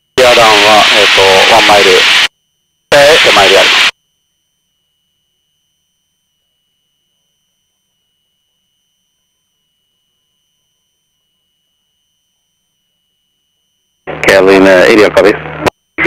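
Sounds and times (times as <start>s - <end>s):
faint high-pitched electronic tone: 0.0s - 16.0s.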